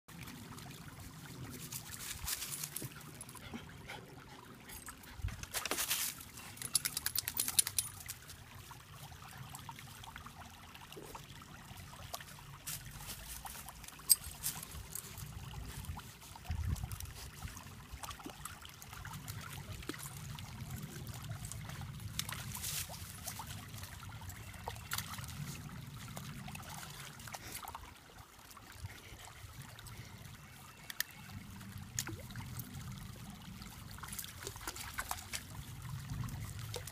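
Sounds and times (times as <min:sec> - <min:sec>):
puppies splashing in water: 0:00.1 - 0:14.0, 0:14.6 - 0:30.2, 0:31.8 - 0:36.9
stream trickling over rocks: 0:00.1 - 0:36.9.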